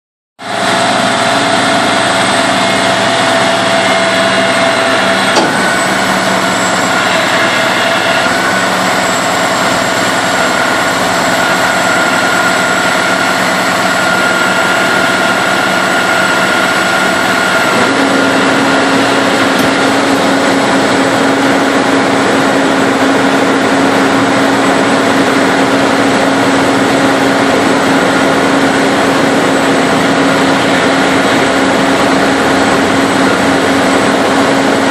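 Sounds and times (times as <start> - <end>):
tow truck engine running: 0.4 - 34.9
whining tone: 0.4 - 34.9.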